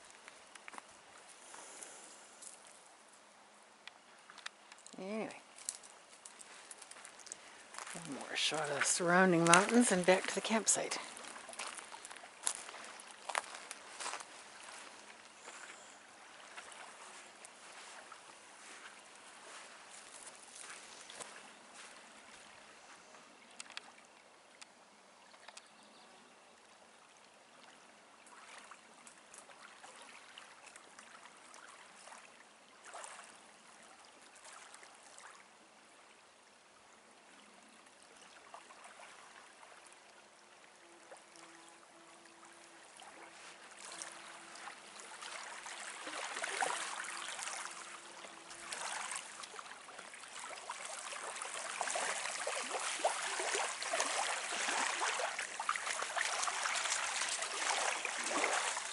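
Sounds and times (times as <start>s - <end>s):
lake waves lapping at shoreline: 0.0s - 58.9s.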